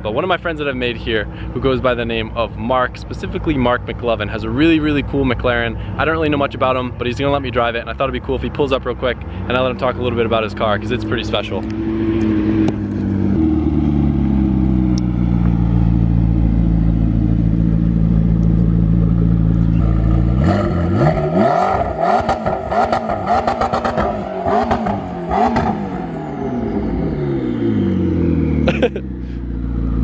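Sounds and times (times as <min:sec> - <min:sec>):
exhaust crackling: 0:00.0 - 0:30.0
car engine revving: 0:00.4 - 0:30.0.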